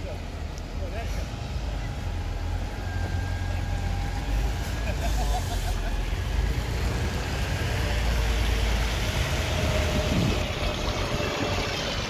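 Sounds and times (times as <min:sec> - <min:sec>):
bus engine rumbling: 0:00.0 - 0:12.0
road noise on wet street: 0:00.0 - 0:12.0.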